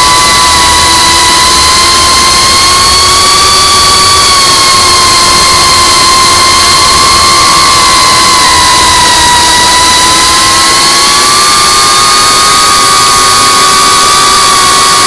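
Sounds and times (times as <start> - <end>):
drone motors whining: 0.0 - 15.0
loud rush of noise: 0.0 - 15.0.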